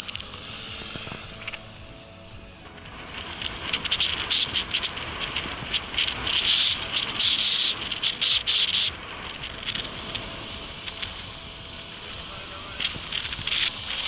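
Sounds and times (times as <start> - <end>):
tyres crunching snow and ice: 0.0 - 14.0.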